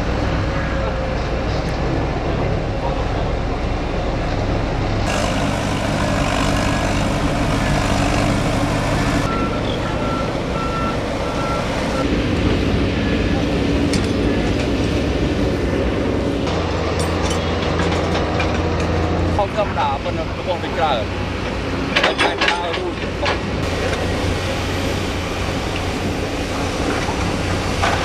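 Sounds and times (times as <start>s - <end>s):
heavy diesel machinery running: 0.0s - 28.0s.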